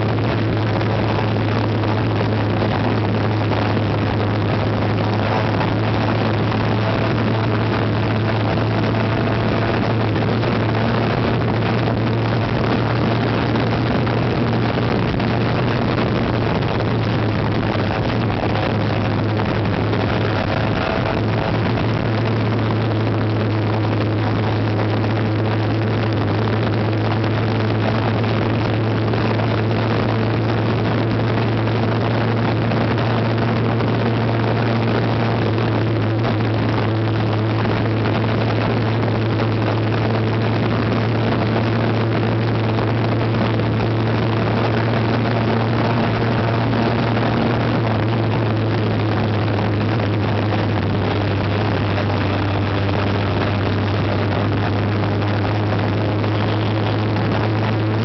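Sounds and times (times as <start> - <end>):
motorcycle engine cruising: 0.0 - 58.0
road rush: 0.0 - 58.0
wind on microphone: 0.0 - 58.0.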